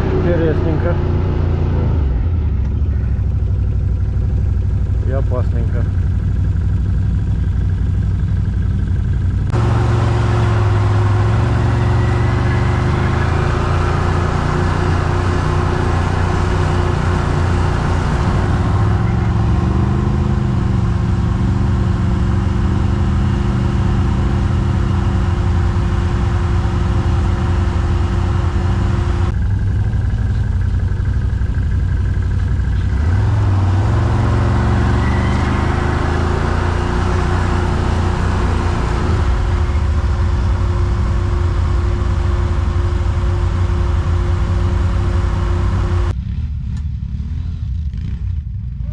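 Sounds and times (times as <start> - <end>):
quad bike engine revving: 0.0 - 3.4, 4.7 - 46.2.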